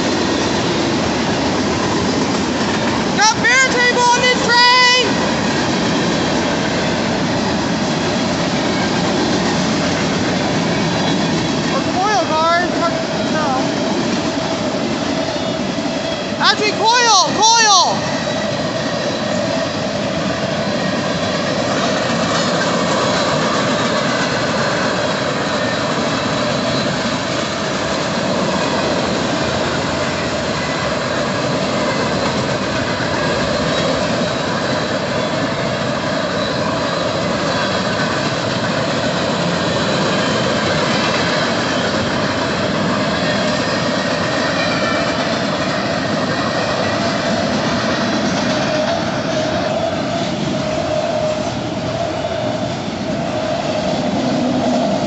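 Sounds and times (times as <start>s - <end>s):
steel train wheels on rail: 0.0s - 55.0s.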